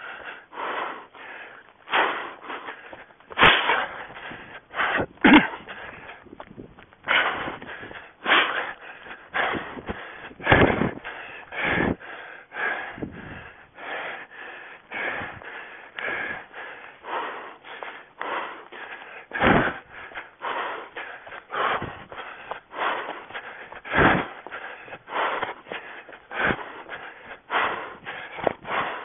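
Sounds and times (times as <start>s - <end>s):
runner panting: 0.0s - 29.0s.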